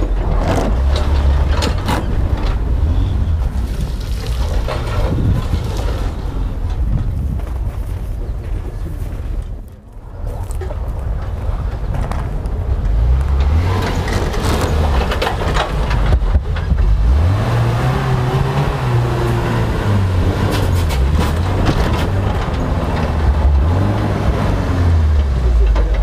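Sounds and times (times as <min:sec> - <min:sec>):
off-roader engine revving: 0:00.0 - 0:07.4, 0:10.8 - 0:26.0
clatter: 0:00.0 - 0:26.0.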